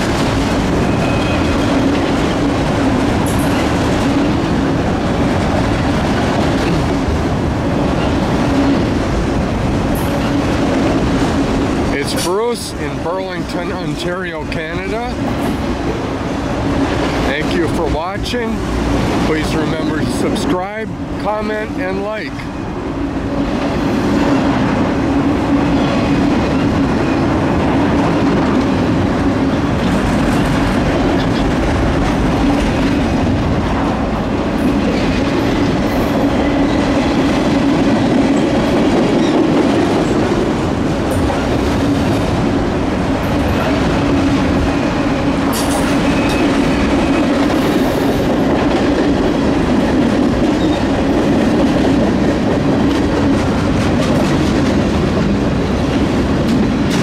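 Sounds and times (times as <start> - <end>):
freight train rumbling: 0.0 - 57.0
wheels clacking on rails: 0.0 - 57.0.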